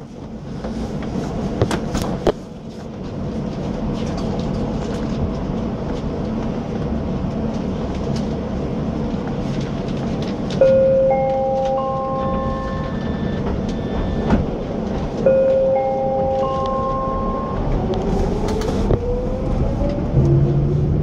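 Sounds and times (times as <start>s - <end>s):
train car humming: 0.0s - 21.0s.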